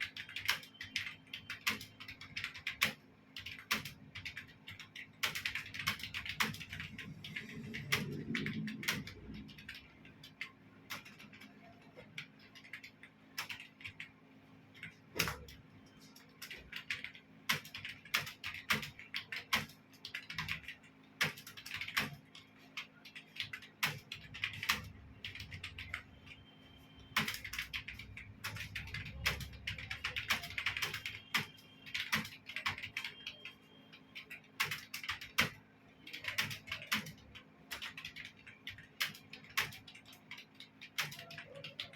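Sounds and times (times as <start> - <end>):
computer keyboard typing: 0.0 - 41.9.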